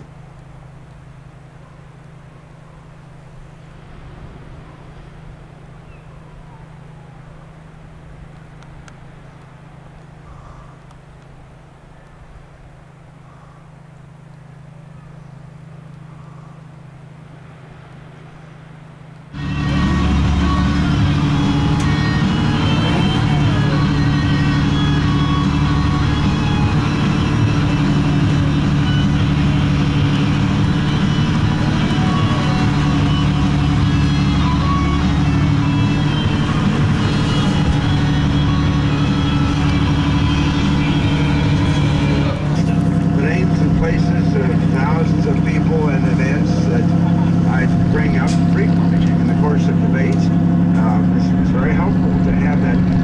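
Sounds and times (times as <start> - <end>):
boat engine humming: 0.0 - 53.0.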